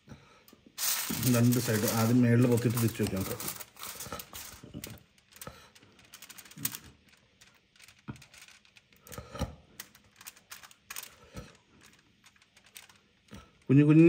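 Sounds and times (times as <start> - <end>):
foil rustling: 0.8 - 14.0.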